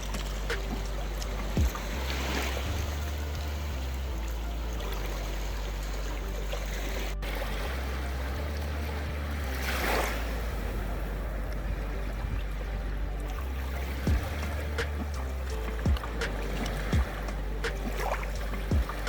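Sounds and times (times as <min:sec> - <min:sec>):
sea water lapping at shore: 0:00.0 - 0:19.0
wind rumble on microphone: 0:00.0 - 0:19.0.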